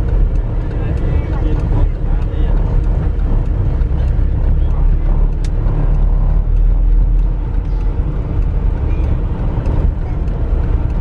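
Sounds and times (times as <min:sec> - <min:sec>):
vehicle rumbling on dirt road: 0:00.0 - 0:11.0.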